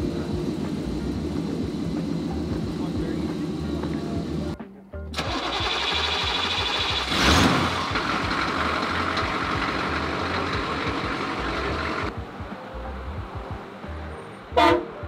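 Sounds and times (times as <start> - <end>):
truck engine starting and idling: 0.0 - 12.1.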